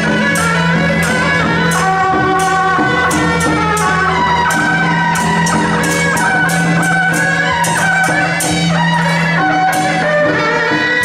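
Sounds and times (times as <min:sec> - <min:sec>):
cymbal strikes: 0:00.0 - 0:11.0
sustained wind melody: 0:00.0 - 0:11.0.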